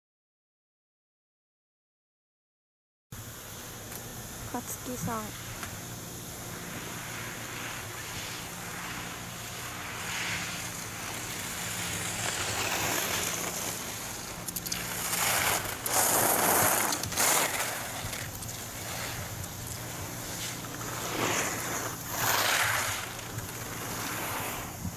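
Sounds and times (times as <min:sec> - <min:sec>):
steady low hum: 0:03.2 - 0:24.9
skis scraping on snow: 0:04.6 - 0:24.9.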